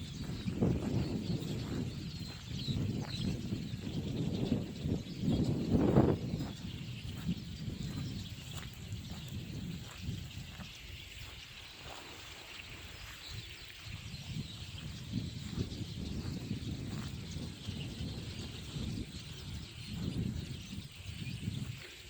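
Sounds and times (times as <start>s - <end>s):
large flock of birds calling: 0.0s - 22.0s.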